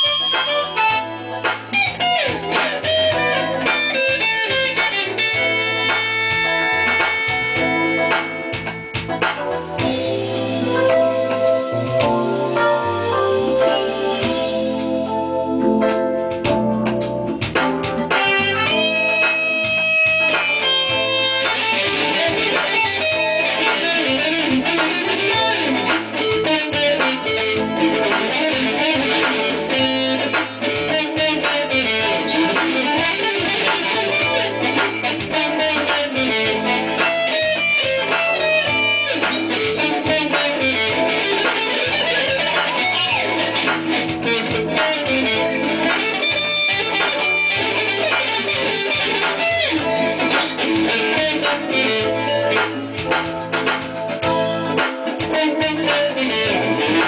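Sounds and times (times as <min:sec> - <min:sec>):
bass line: 0:00.0 - 0:57.0
guitar picking: 0:00.0 - 0:57.0.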